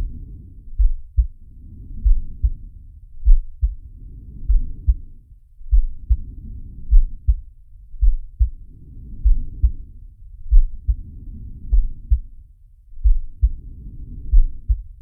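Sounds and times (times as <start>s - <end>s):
slow heartbeat thumps: 0.0s - 6.3s, 6.9s - 9.9s, 10.5s - 11.1s, 11.7s - 12.4s, 13.0s - 13.6s, 14.3s - 15.0s.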